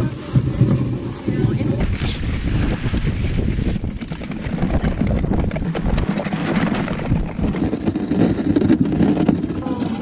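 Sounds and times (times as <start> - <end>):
sled runners scraping on snow: 0.0 - 10.0
wind buffeting microphone: 0.0 - 10.0.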